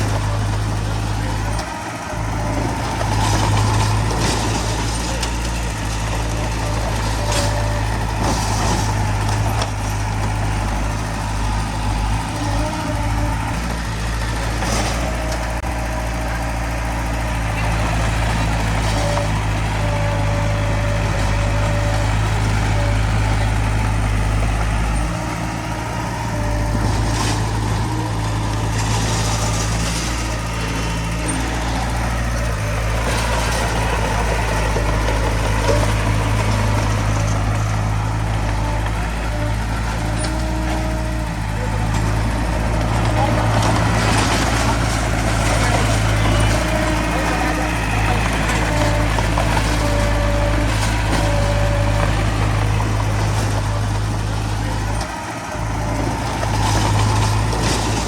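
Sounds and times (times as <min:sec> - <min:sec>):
diesel earthmoving machinery droning: 0:00.0 - 0:58.0
machinery clatter: 0:00.0 - 0:58.0.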